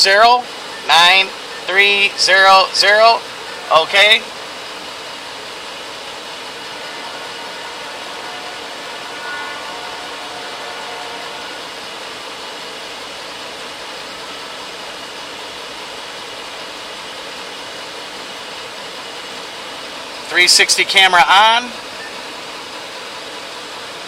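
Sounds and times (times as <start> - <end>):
blower fan rushing air: 0.0 - 20.3.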